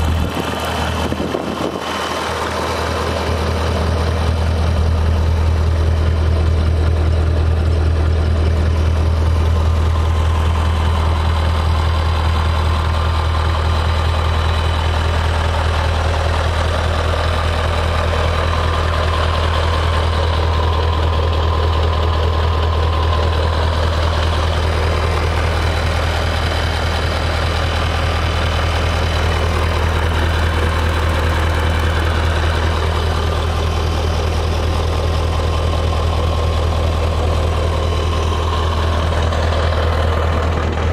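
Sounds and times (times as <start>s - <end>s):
truck diesel engine idling: 0.0s - 40.9s.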